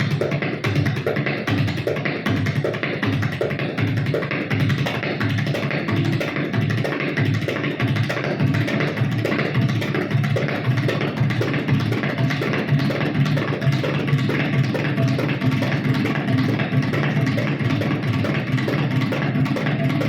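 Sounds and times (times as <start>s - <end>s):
tabla fast rhythm: 0.0s - 20.0s.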